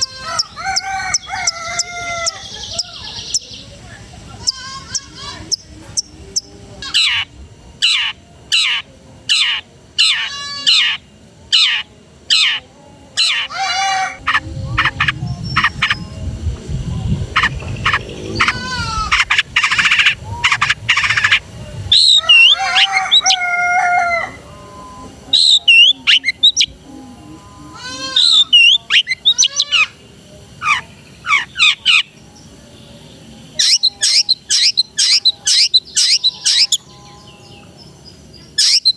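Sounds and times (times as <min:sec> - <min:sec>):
bird singing and warbling: 0:00.0 - 0:38.9.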